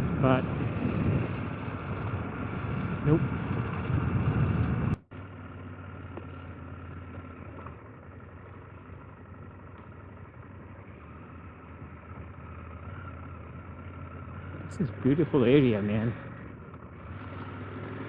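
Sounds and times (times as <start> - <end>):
motorcycle engine humming: 0.0 - 18.0.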